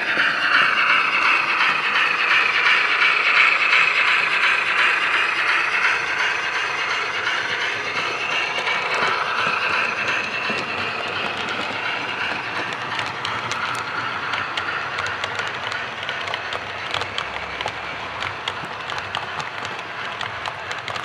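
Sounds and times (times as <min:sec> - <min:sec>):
model train rolling: 0:00.0 - 0:21.0
wheels clicking over rail joints: 0:00.0 - 0:21.0.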